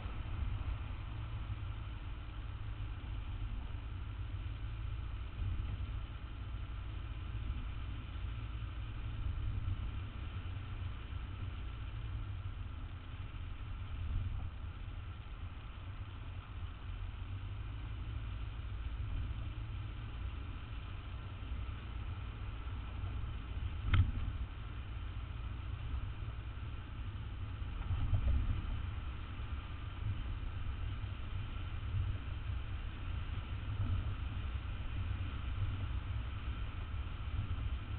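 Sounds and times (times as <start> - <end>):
city street traffic rumble: 0.0 - 37.9.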